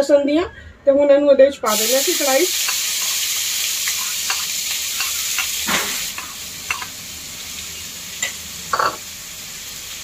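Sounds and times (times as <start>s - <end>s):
onion sizzling in hot oil: 1.7s - 10.0s.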